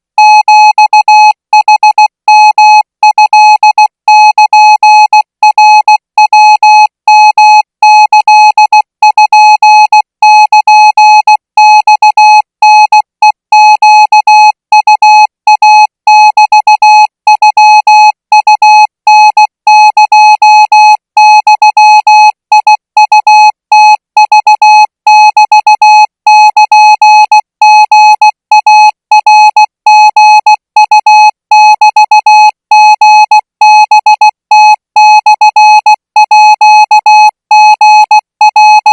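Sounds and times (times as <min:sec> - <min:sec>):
morse code beeps: 0:00.2 - 0:38.9.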